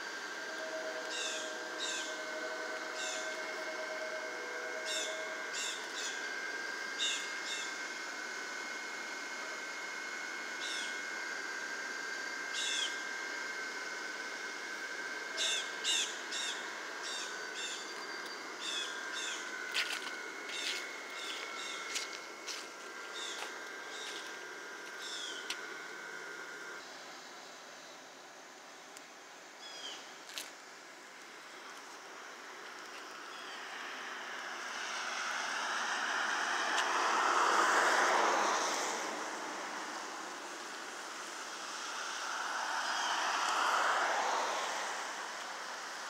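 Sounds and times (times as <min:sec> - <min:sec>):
blower fans humming: 0:00.0 - 0:46.0.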